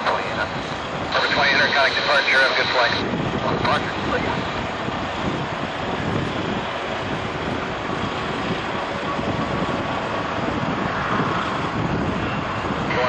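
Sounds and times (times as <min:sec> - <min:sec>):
jet engines rumbling at taxi: 0:00.0 - 0:13.0.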